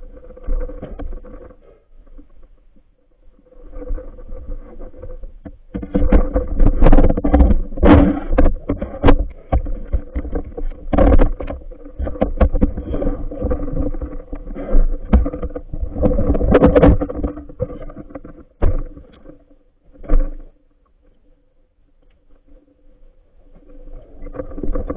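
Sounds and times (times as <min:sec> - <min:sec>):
muffled underwater knocks and scrapes: 0:00.0 - 0:24.9.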